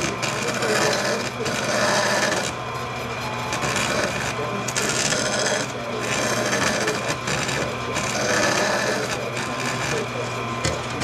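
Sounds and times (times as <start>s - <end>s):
bandsaw cutting aluminum: 0.0s - 11.0s
motor hum: 0.0s - 11.0s.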